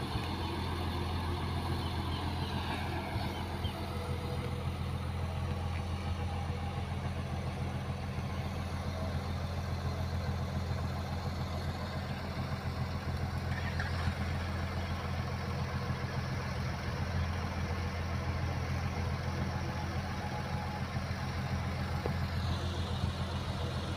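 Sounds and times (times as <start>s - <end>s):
excavator diesel engine droning: 0.0s - 23.9s.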